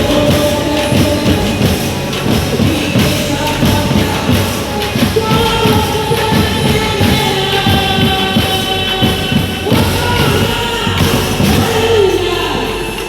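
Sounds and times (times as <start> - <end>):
band with steady beat: 0.0 - 13.0.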